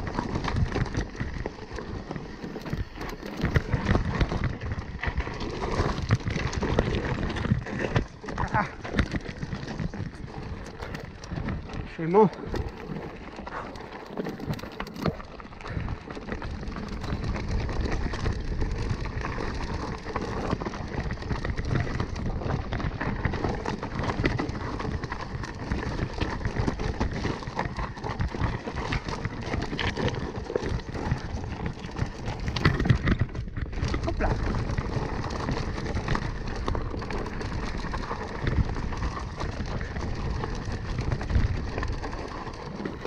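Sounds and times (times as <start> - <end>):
bike rattling: 0.0 - 43.0
tyres crunching over stones: 0.0 - 43.0.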